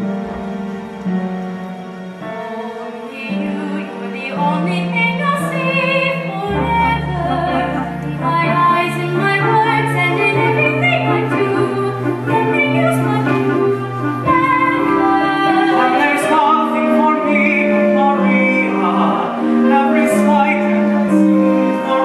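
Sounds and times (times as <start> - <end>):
instrumental accompaniment: 0.0 - 22.0
man and woman singing a duet: 2.5 - 22.0.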